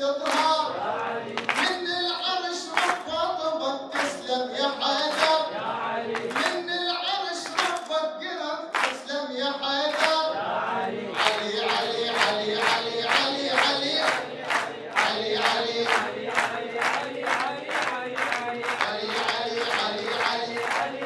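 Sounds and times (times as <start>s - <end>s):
man singing praise song: 0.0s - 21.0s
audience clapping along: 0.1s - 21.0s.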